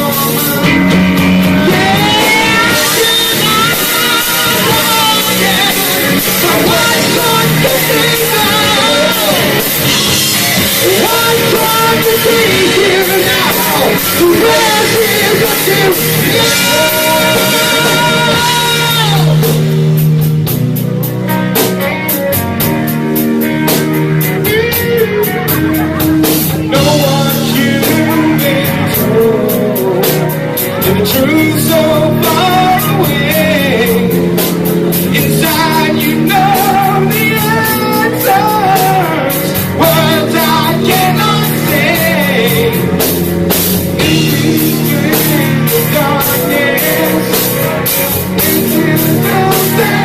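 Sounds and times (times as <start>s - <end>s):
heavy metal band playing: 0.0s - 50.0s.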